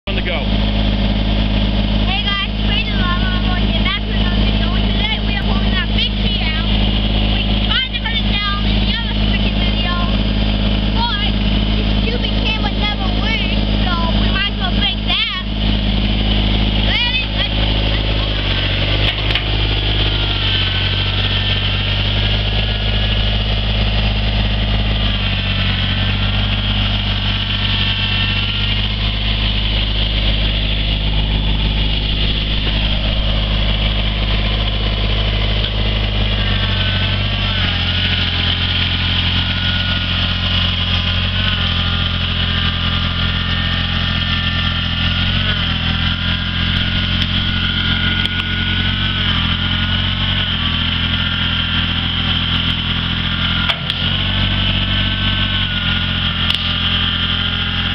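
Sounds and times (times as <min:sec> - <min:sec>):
diesel tractor engine running: 0:00.0 - 0:57.9.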